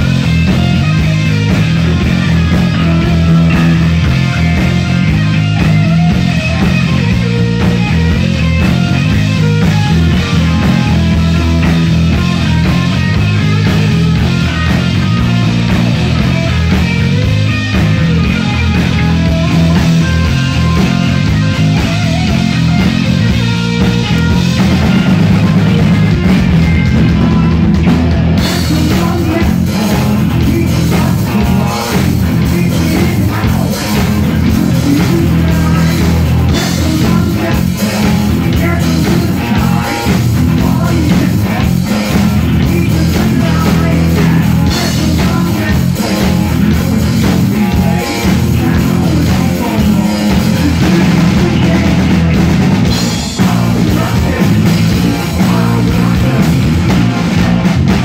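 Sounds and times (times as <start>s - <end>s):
distorted electric guitar: 0.0s - 58.0s
driving drum kit: 0.0s - 58.0s.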